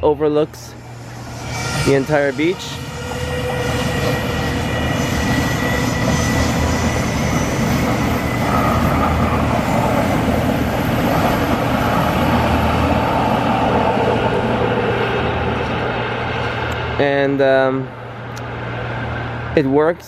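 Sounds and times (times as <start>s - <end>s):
electric train passing: 0.0s - 20.0s
high-pitched whines: 0.2s - 17.0s.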